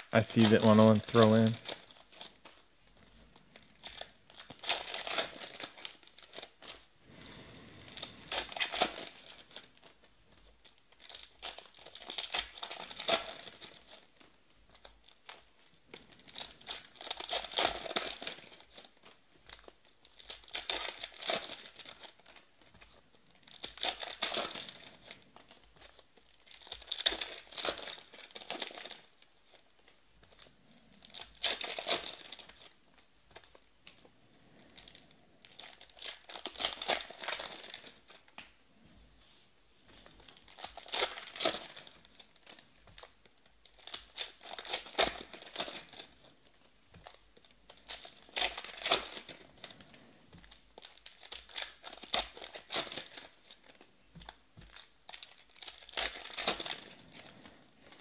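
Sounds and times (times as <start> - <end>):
card wrappers tearing and crinkling: 0.0 - 2.6, 3.3 - 6.9, 7.9 - 38.6, 39.8 - 58.0.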